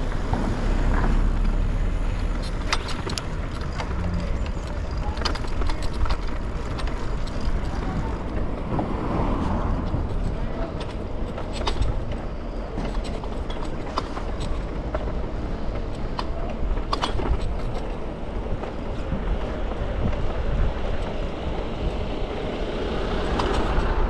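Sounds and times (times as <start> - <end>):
bicycle road noise: 0.0 - 24.0
city traffic: 0.0 - 24.0
wind rumble: 0.0 - 24.0.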